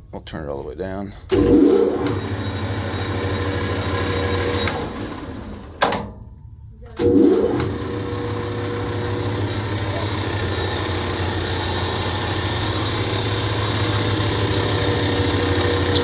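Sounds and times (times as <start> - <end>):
lathe motor humming: 1.3 - 5.8, 7.0 - 16.0.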